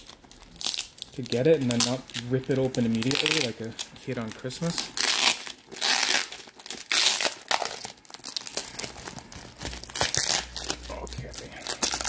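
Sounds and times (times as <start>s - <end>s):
plastic wrapping crinkling and tearing: 0.0s - 12.0s.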